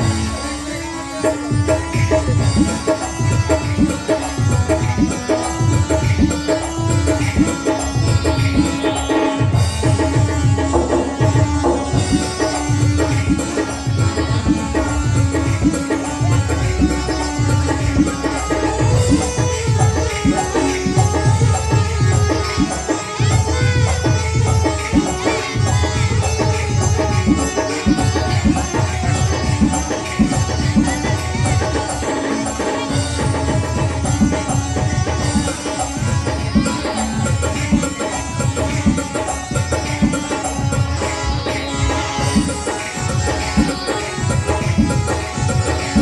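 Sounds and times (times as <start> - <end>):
film music with tabla drum beat: 0.0 - 46.0.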